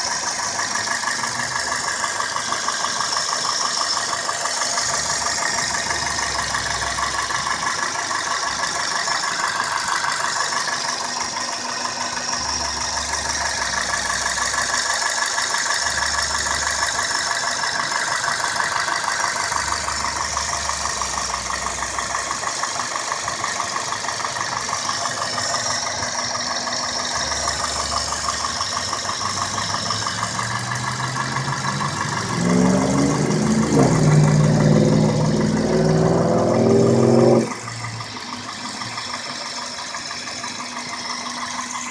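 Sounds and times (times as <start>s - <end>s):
car engine idling: 0.0s - 41.9s
rapid engine ticking: 0.0s - 41.9s.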